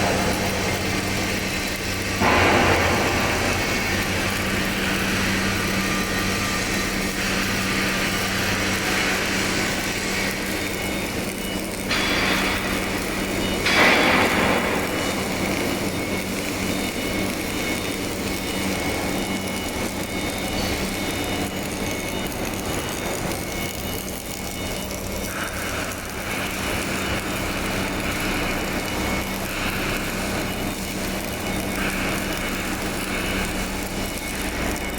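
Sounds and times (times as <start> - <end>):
low machine hum: 0.0 - 34.9
welding machinery hissing: 0.0 - 34.9.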